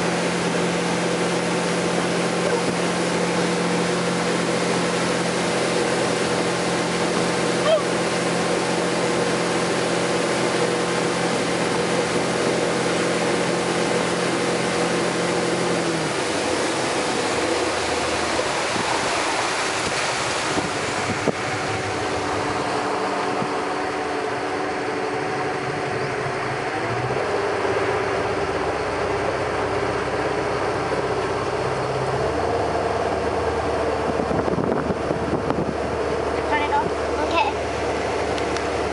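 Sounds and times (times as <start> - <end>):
boat engine running: 0.0 - 38.9
rushing water: 0.0 - 38.9
wind: 0.0 - 38.9.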